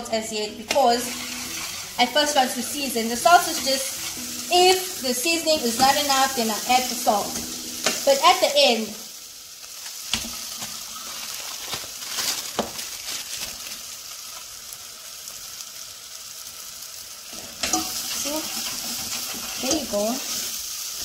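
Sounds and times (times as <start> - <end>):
onions sizzling in pot: 0.0 - 21.0.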